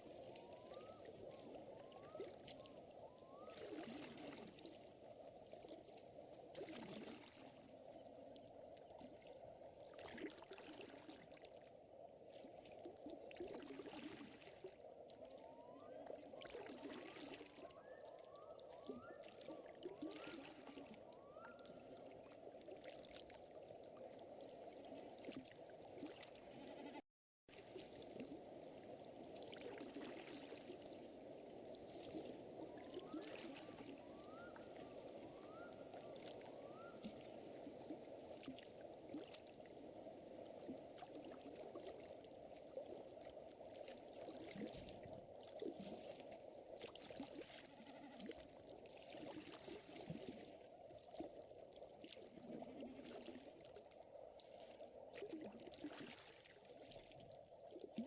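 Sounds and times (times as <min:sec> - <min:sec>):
water trickling and lapping: 0:00.0 - 0:58.0.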